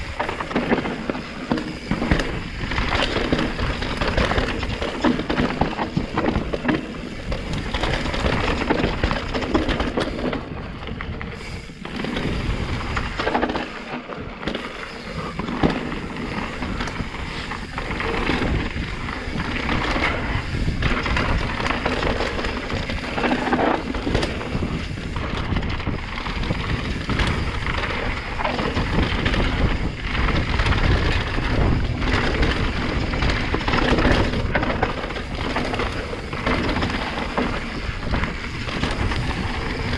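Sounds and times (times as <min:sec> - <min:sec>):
bike rattling over stones: 0:00.0 - 0:39.9.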